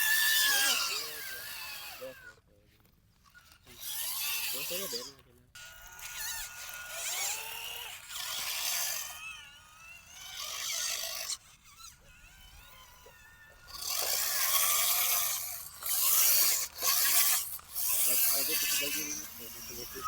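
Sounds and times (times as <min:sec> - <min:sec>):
toy vehicle electric motor whining: 0:00.0 - 0:20.0.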